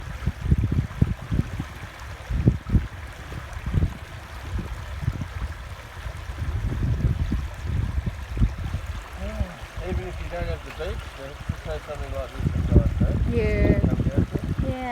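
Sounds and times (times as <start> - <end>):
river water rushing: 0.0 - 14.9
low rumbles: 2.3 - 14.9.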